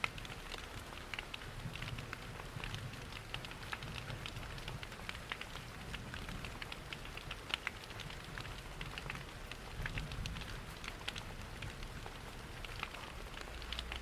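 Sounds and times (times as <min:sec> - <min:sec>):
steady rain: 0:00.0 - 0:14.0
wood fire crackling: 0:00.0 - 0:14.0.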